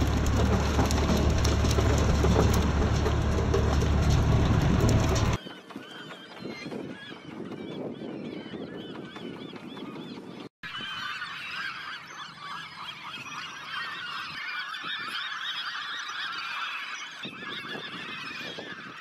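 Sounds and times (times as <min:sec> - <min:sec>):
gulls calling: 0:00.0 - 0:19.0.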